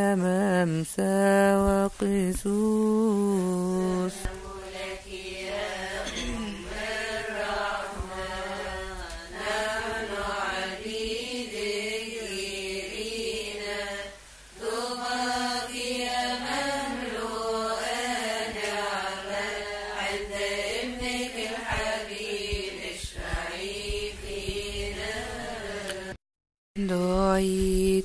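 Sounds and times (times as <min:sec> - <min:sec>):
woman chanting a hymn: 0:00.0 - 0:26.2.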